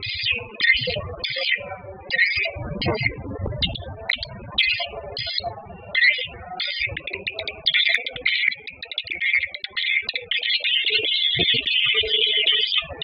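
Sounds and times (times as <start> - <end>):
swiftlets chirping and twittering: 0.0 - 13.0.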